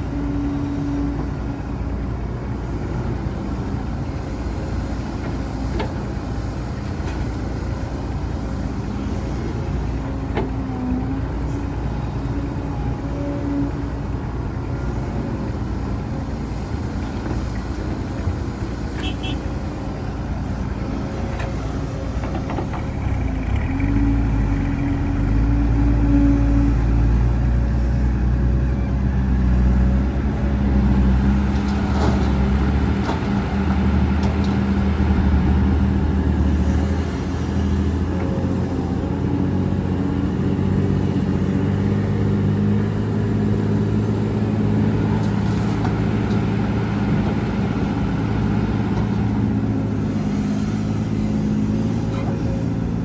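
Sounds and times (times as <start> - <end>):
diesel earthmoving machinery running: 0.0 - 53.0.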